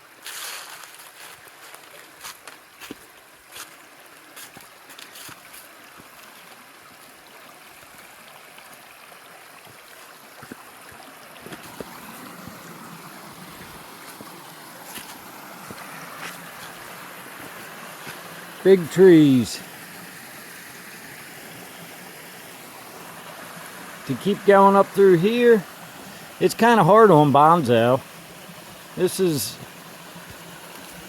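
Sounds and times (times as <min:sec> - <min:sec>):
river water rushing: 0:01.4 - 0:31.0.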